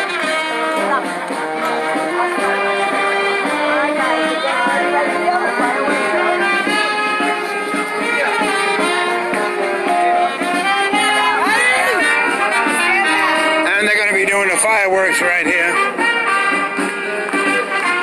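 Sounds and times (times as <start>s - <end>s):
brass band playing: 0.0s - 18.0s.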